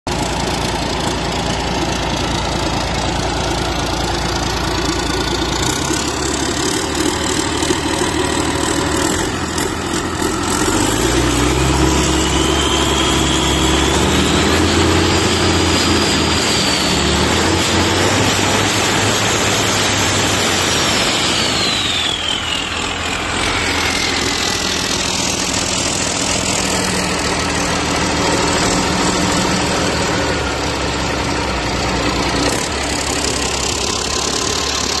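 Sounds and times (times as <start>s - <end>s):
diesel engine idling and revving: 0.1s - 35.0s
turbocharger whistle: 4.9s - 31.2s, 32.1s - 35.0s.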